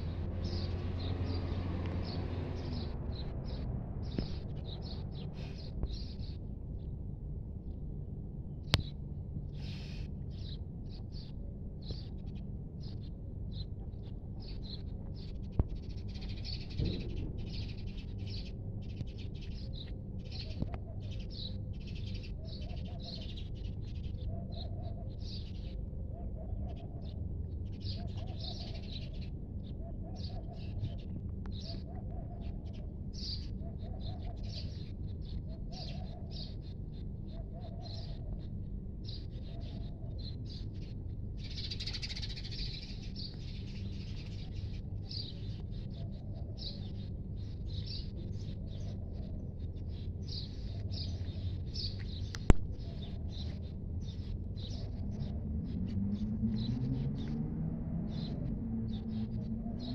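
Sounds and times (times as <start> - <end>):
steady low background hum: 0.0 - 59.9.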